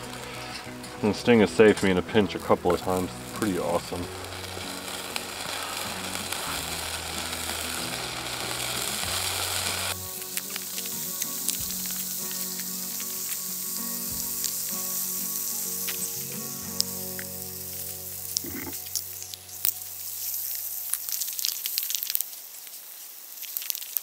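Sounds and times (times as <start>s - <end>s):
soft background music: 0.0s - 22.2s
potatoes frying in oil: 0.0s - 24.0s.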